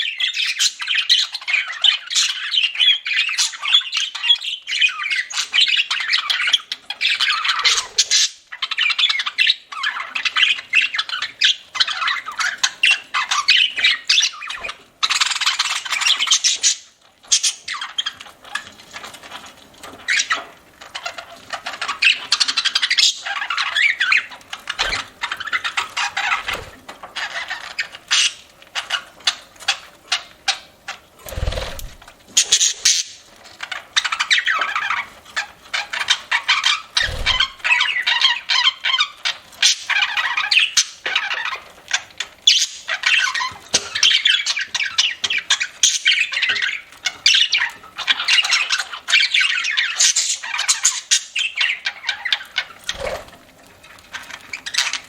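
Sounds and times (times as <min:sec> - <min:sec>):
budgerigars chattering and chirping: 0:00.0 - 0:18.7, 0:20.0 - 0:53.4.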